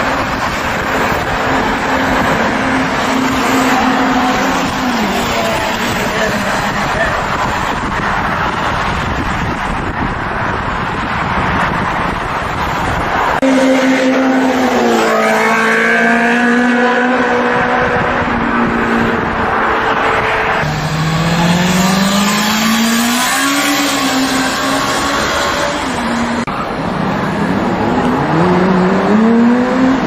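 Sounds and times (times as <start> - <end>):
wind rush: 0.0 - 13.4, 15.8 - 30.0.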